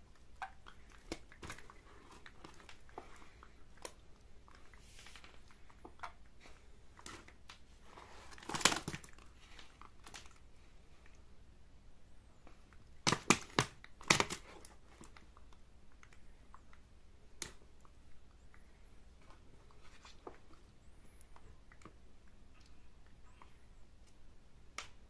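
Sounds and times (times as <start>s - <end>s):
rustling: 0.0s - 11.3s, 12.4s - 25.0s.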